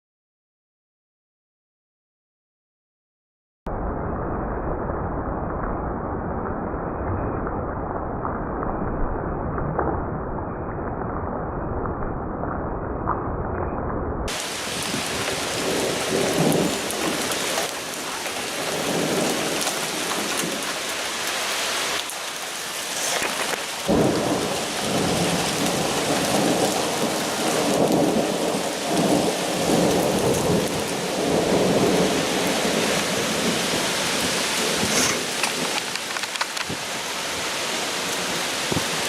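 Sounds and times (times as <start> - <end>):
thunder rumbles: 3.7 - 39.0
heavy rain pouring: 3.8 - 39.0.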